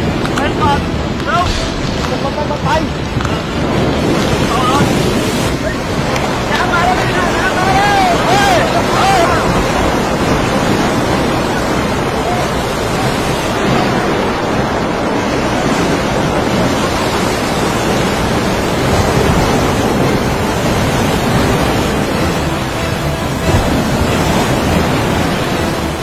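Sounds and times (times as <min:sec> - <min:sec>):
water rushing: 0:00.0 - 0:26.0
wind rushing: 0:00.0 - 0:26.0.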